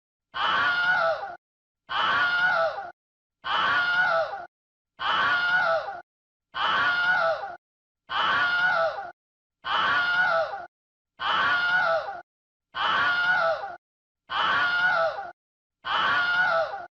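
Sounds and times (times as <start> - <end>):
person screaming: 0.4 - 6.0, 6.6 - 12.2, 12.8 - 16.9.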